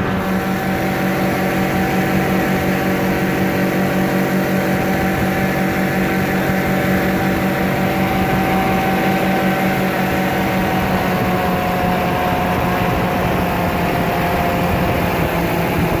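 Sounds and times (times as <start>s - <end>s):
powered parachute engine: 0.0s - 16.0s.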